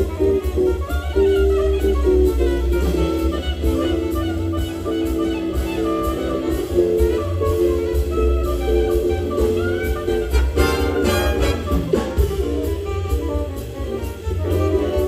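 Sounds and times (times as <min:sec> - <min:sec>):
bright trumpets: 0:00.0 - 0:15.0
held horn chords: 0:00.0 - 0:15.0
soprano saxophone: 0:00.0 - 0:15.0
walking bass: 0:00.0 - 0:15.0.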